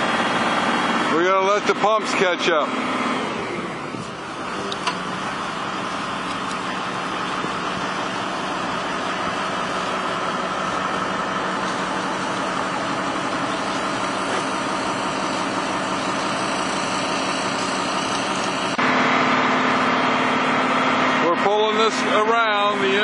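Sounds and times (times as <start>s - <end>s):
engines humming: 0.0s - 23.0s
excavator engine idling: 0.0s - 23.0s.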